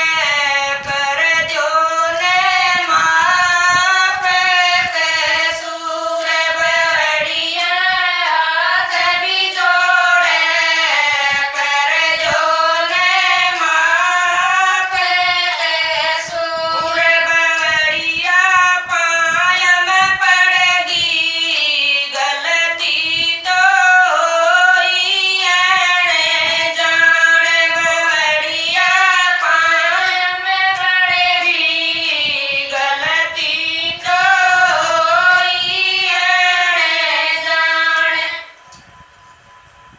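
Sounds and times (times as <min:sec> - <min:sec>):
women singing in unison: 0:00.0 - 0:38.6.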